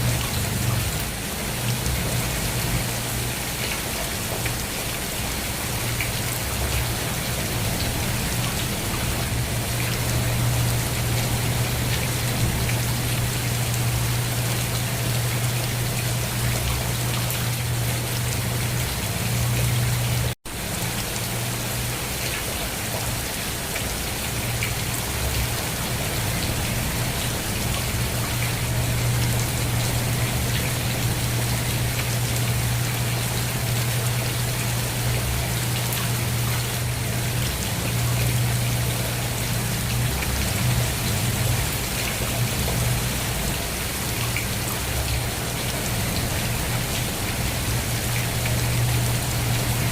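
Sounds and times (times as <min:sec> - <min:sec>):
rain pattering on a surface: 0:00.0 - 0:49.9.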